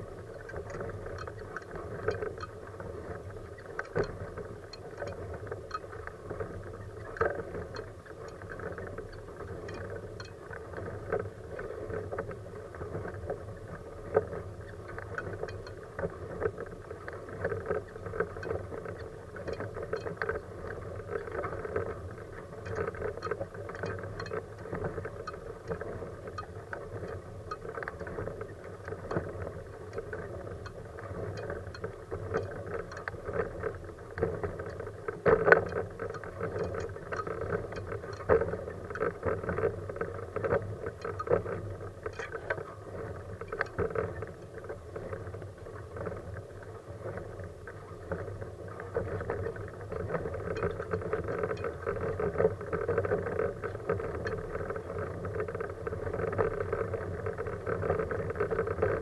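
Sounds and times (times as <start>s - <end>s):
wheelchair rolling over asphalt: 0.0s - 59.0s.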